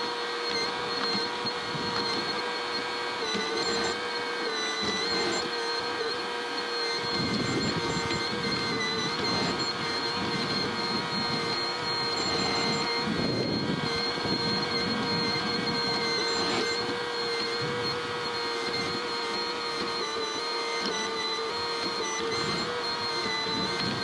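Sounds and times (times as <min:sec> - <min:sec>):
excavator diesel engine running: 0:00.0 - 0:24.0
hydraulic whine: 0:00.0 - 0:24.0.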